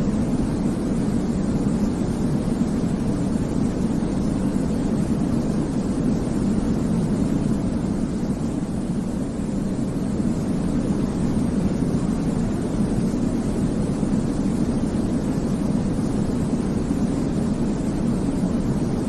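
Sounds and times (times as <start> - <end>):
white noise rumble: 0.0 - 19.0.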